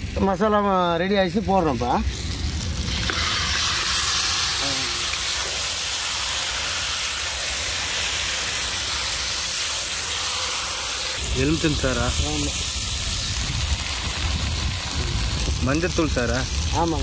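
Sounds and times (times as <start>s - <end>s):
meat sizzling in a hot pan: 0.0s - 17.0s.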